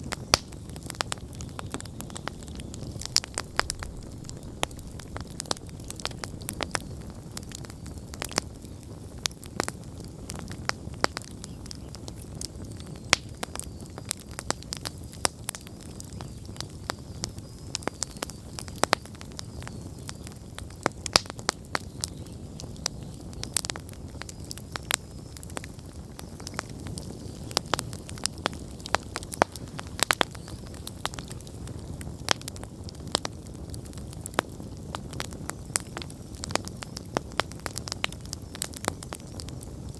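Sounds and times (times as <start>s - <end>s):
burning wood crackling and popping: 0.0s - 39.9s
flames rumbling: 0.0s - 39.9s.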